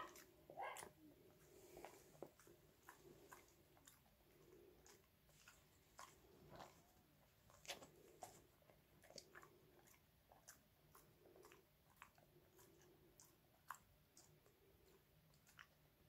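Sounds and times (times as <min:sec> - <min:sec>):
dog chewing with teeth clicks: 0:00.0 - 0:16.0.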